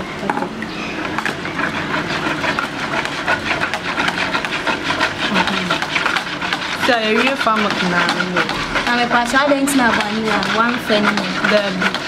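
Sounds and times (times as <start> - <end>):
wire whisk beating in plastic basin: 1.1 - 12.0.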